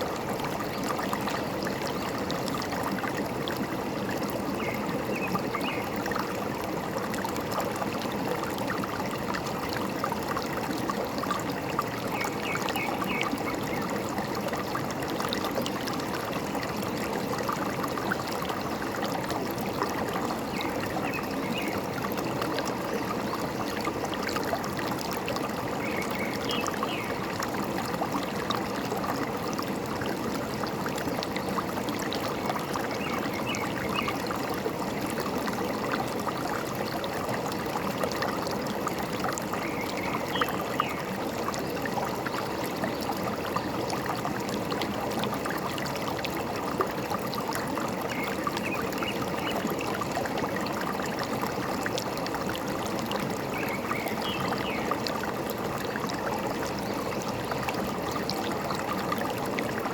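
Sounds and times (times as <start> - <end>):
stream gurgling and trickling: 0.0 - 59.9.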